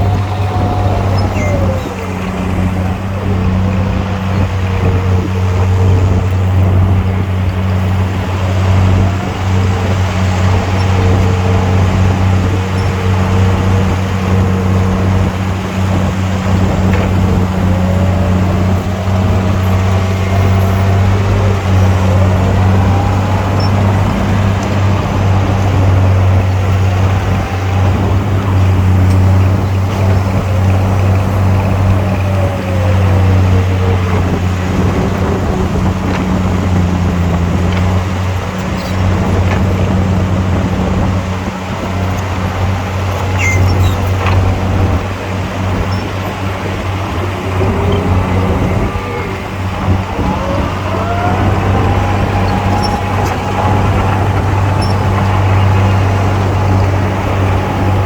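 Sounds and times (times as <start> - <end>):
faint wavering whines: 0.0 - 58.0
heavy diesel engine hum: 0.0 - 58.0.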